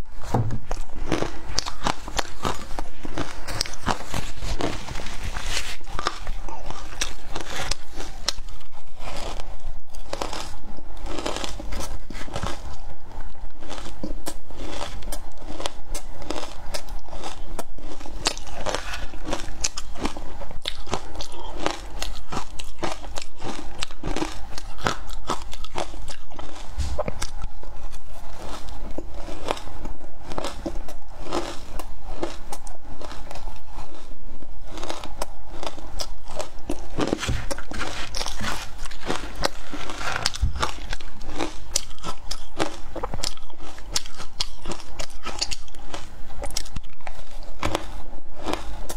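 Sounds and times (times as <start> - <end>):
chewing crunchy crushed ice: 0.1 - 48.9.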